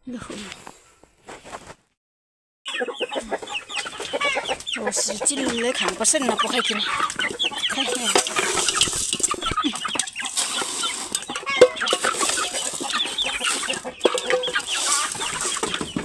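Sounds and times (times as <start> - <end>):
hens clucking and squawking: 2.7 - 16.0.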